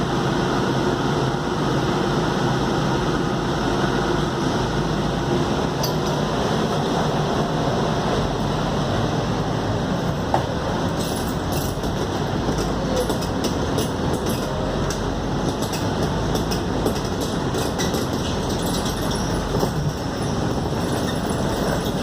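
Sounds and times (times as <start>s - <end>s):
bus body rattling: 0.0s - 22.0s
bus engine drone: 0.0s - 22.0s.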